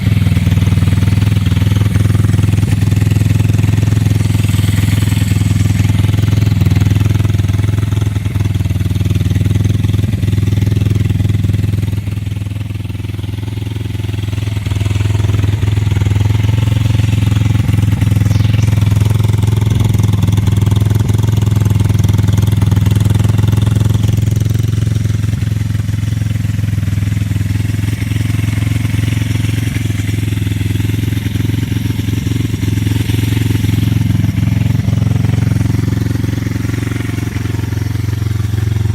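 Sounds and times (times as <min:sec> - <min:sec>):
motorbike engine idling: 0:00.0 - 0:38.9.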